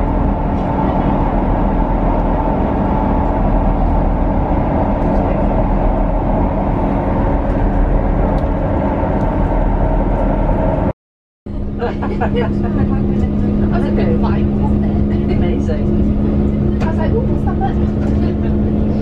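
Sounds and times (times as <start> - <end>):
constant hum: 0.0 - 10.9, 11.5 - 19.0
train wheels rumbling on track: 0.0 - 10.9, 11.5 - 19.0.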